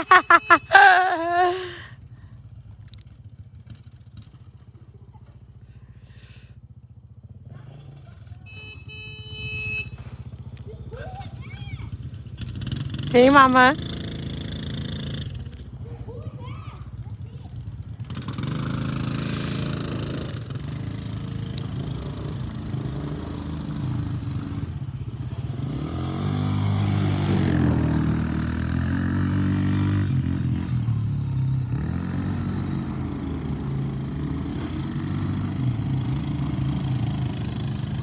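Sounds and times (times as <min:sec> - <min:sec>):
quad engines revving: 0:03.6 - 0:08.7, 0:09.4 - 0:38.0.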